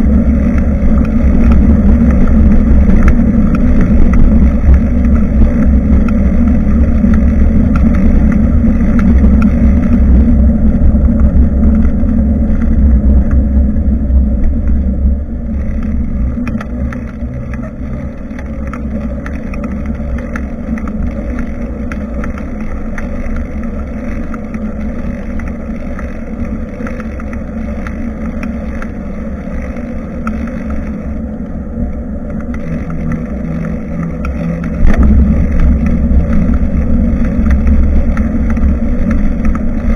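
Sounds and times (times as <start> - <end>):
tyre and road noise: 0.0 - 39.9
wind rumbling on microphone: 0.0 - 39.9.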